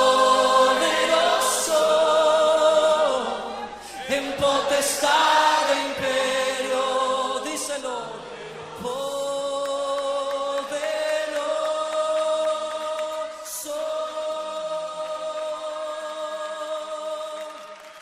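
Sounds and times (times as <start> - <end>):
group singing in harmony: 0.0 - 18.0.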